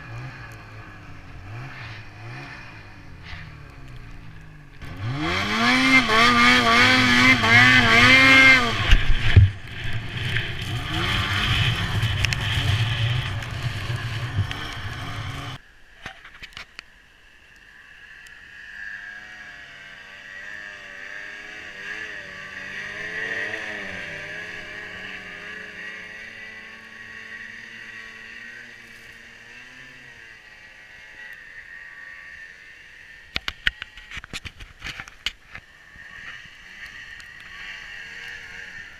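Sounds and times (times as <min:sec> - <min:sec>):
snowmobile engine revving: 0:00.0 - 0:15.6, 0:17.8 - 0:34.2, 0:35.6 - 0:38.9
distant snowmobile engines: 0:00.0 - 0:38.9.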